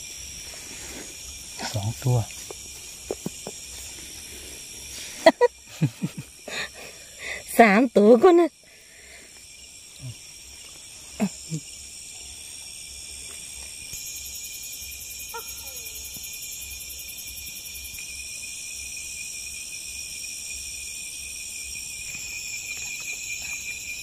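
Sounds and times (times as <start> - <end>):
night insects chorus: 0.0 - 24.0.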